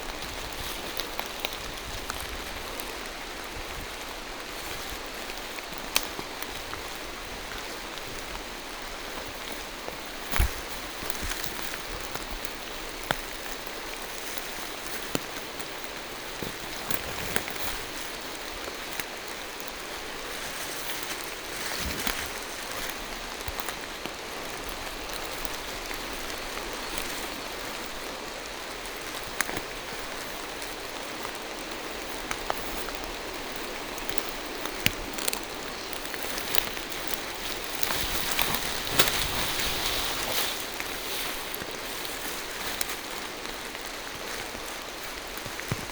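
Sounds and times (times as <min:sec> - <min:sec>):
rain falling through trees: 0:00.0 - 0:45.9.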